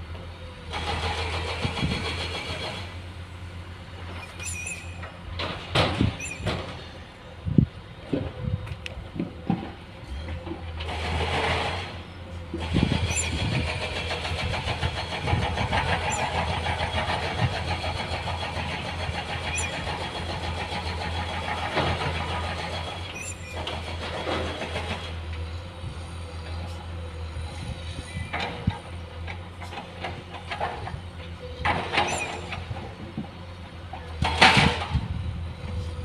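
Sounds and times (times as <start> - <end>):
diesel machinery engine humming: 0.0 - 36.0.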